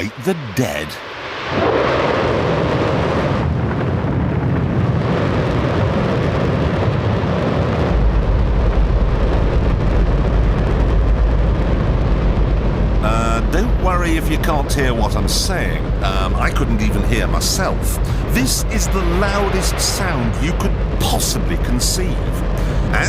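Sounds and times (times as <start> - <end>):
rocket engine exhaust roar: 0.0 - 23.0
low rumble: 1.0 - 23.0.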